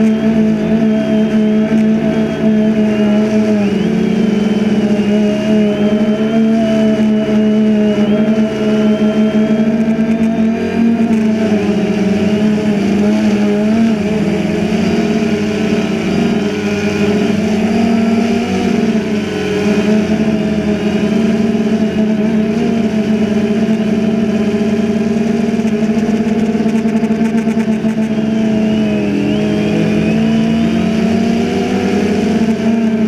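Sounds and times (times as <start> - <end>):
drone propellers humming: 0.0 - 33.0.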